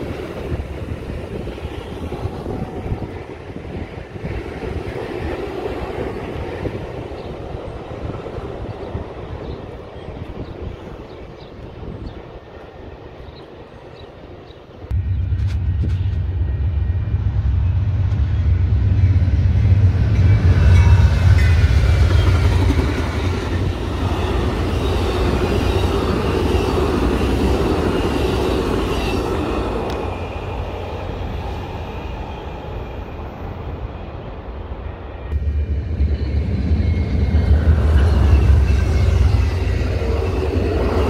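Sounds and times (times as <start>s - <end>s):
passenger train passing: 0.0s - 41.0s.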